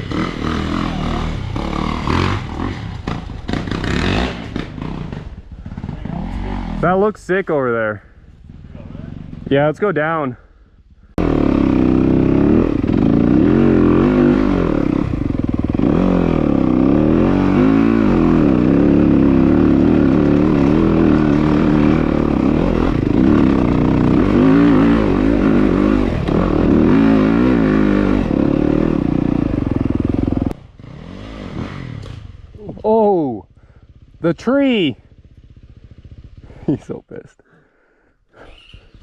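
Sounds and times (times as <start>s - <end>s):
dirt bike engine revving: 0.0s - 10.2s, 11.1s - 36.8s.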